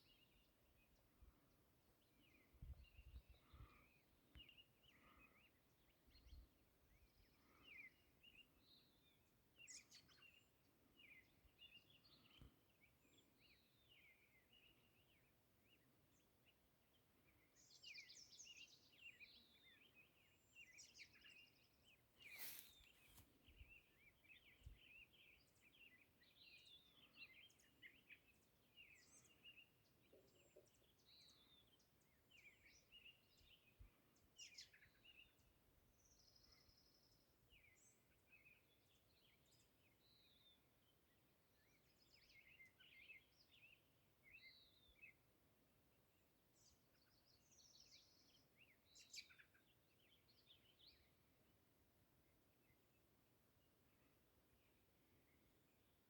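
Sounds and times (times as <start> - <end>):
small birds chirping: 0.0 - 45.2, 46.6 - 51.2.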